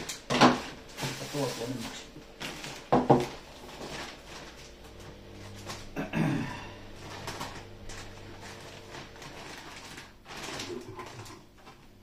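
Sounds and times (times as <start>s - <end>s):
plastic bag crinkling: 0.0s - 6.0s, 6.8s - 12.0s.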